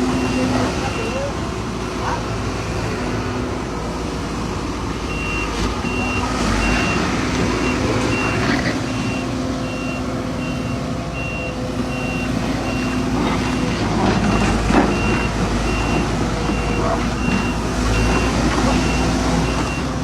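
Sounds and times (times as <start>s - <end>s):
heavy construction machinery running: 0.0s - 20.0s
backup alarm beeping: 0.1s - 2.0s, 5.1s - 19.9s.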